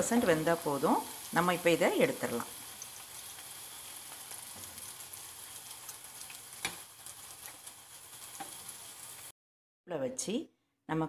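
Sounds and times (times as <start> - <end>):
food deep-frying in hot oil: 0.0 - 9.3.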